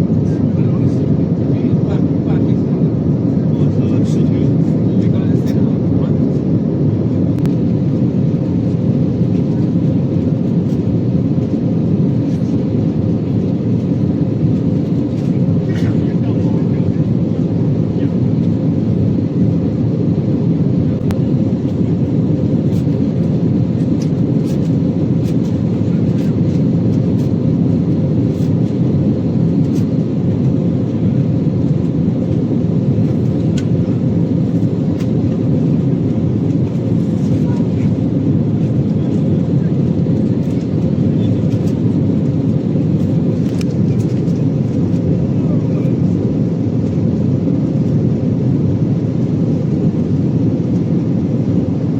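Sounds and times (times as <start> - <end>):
airplane cabin engine noise: 0.0 - 51.9.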